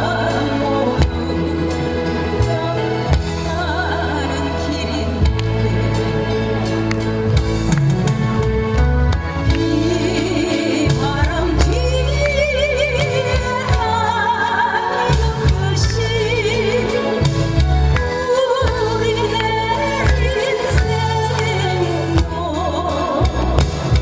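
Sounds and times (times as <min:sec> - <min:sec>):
woman singing a slow ballad: 0:00.0 - 0:06.6, 0:09.4 - 0:24.0
instrumental accompaniment with bass: 0:00.0 - 0:24.0.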